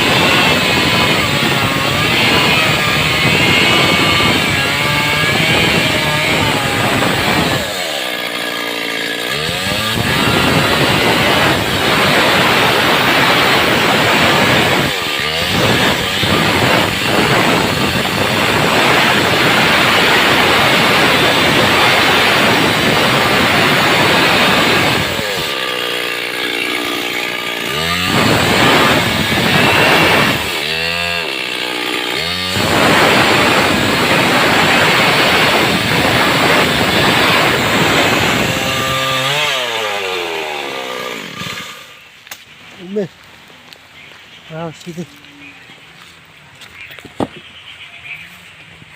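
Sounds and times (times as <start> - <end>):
chainsaw cutting wood: 0.0 - 43.1.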